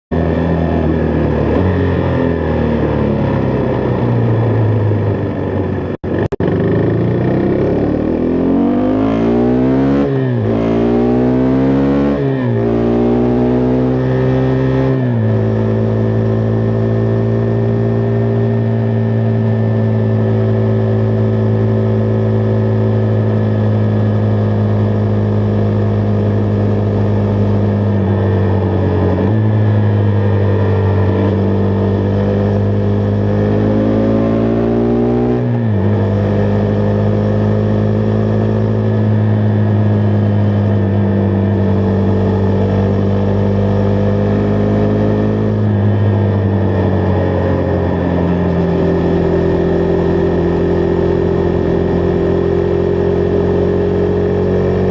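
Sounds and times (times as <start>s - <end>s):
motorcycle engine pulling away: 0.2s - 54.9s.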